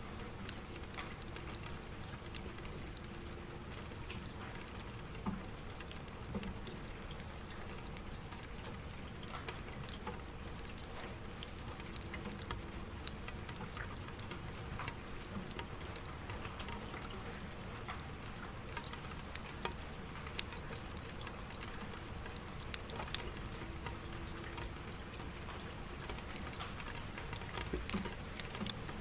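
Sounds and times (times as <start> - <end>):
rain pattering: 0.0 - 29.0.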